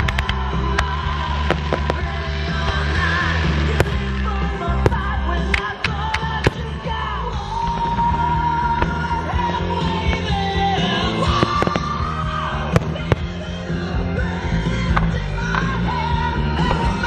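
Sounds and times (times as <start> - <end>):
firework shells bursting: 0.0 - 13.8
music with singing over loudspeakers: 0.0 - 17.0.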